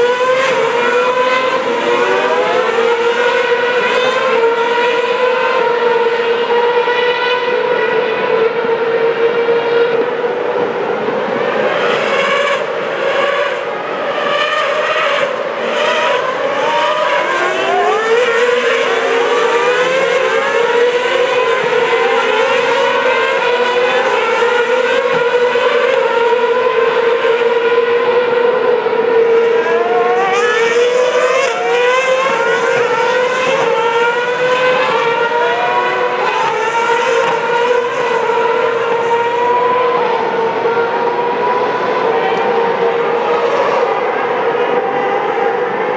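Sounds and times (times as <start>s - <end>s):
racing car engines accelerating: 0.0s - 45.9s.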